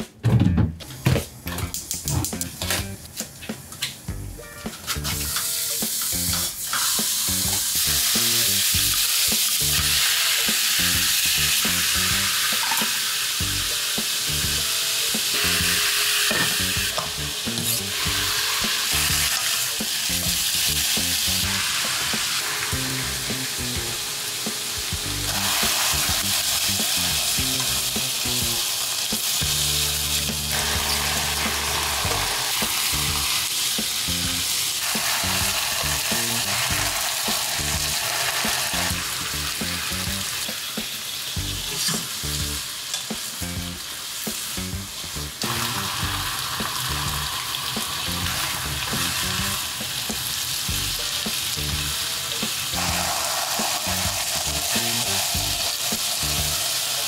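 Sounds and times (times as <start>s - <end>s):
food sizzling in pan: 4.4s - 57.0s.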